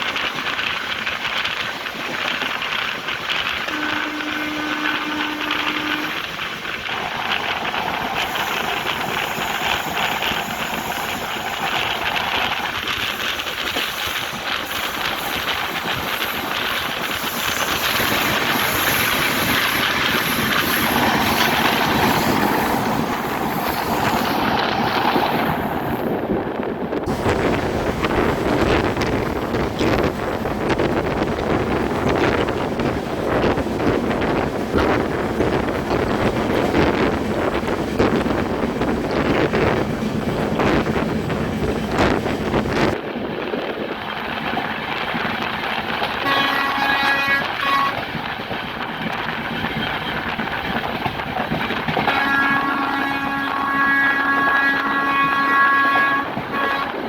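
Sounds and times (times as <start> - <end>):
train wheel and rail noise: 0.0 - 57.0
wind buffeting microphone: 0.0 - 57.0.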